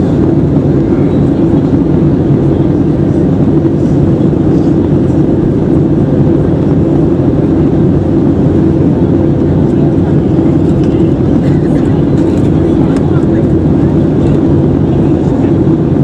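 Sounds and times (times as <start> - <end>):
aircraft engine drone in cabin: 0.0 - 16.0.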